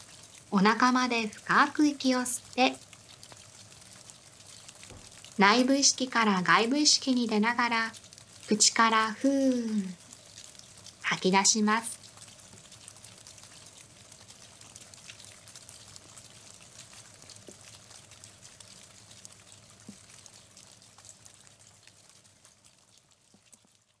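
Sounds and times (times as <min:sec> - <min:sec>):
light rain hissing: 0:00.0 - 0:24.0
raindrops ticking: 0:00.0 - 0:24.0.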